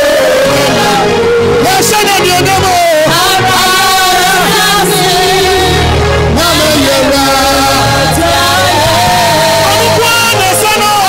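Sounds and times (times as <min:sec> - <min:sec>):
amplified gospel music: 0:00.0 - 0:11.0
person singing: 0:00.0 - 0:11.0
steady bass: 0:00.0 - 0:11.0.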